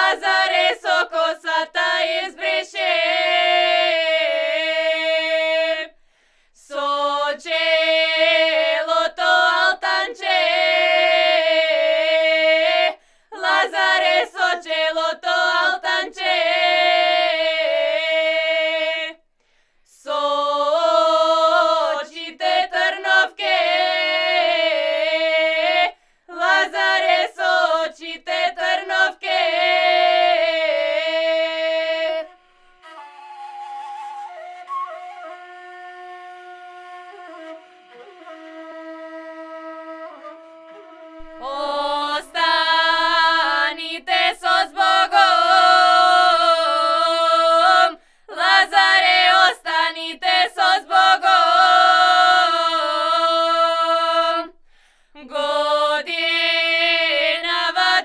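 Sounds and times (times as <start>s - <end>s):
women singing unaccompanied: 0.0s - 6.0s, 6.6s - 19.2s, 19.9s - 32.3s, 41.3s - 54.6s, 55.2s - 58.0s.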